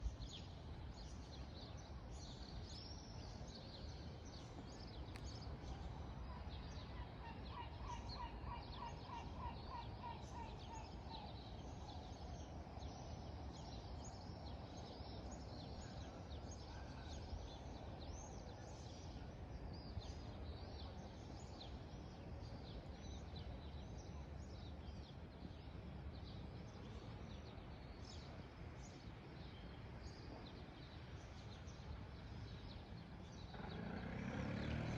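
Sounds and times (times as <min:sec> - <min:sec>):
birds chirping and twittering: 0:00.1 - 0:34.9.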